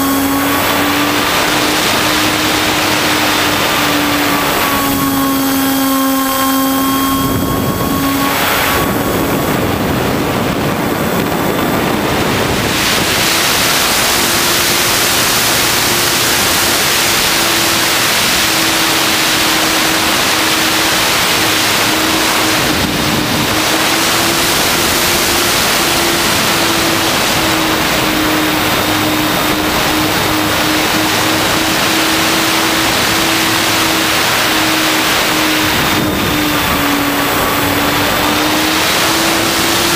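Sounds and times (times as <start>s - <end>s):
model plane motor drone: 0.0s - 39.9s
wind rush: 0.0s - 39.9s.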